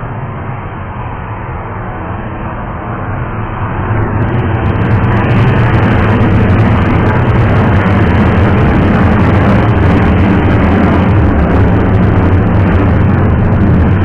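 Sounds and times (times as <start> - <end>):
jet engines at takeoff: 0.0 - 14.0
road traffic passing: 0.0 - 14.0.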